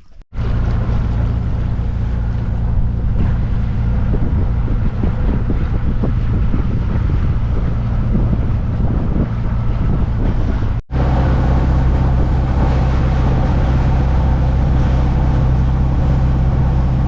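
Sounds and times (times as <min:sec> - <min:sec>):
diesel boat engine running: 0:00.0 - 0:17.0
wind buffeting microphone: 0:00.3 - 0:17.0.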